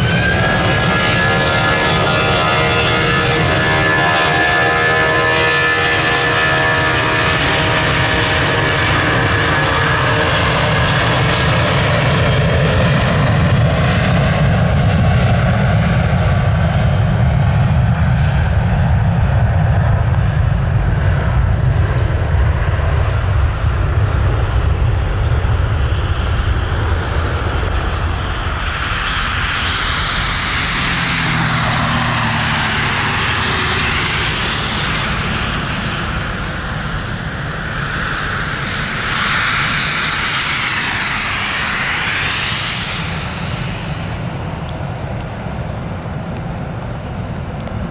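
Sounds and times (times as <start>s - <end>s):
jet deep rumble: 0.0s - 47.9s
jet engine whining fan buzz: 0.0s - 47.9s
jet rushing roar: 0.0s - 47.9s.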